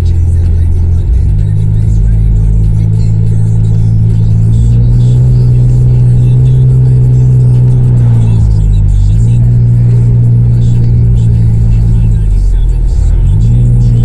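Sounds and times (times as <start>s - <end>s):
loud car exhaust drone: 0.0s - 14.0s.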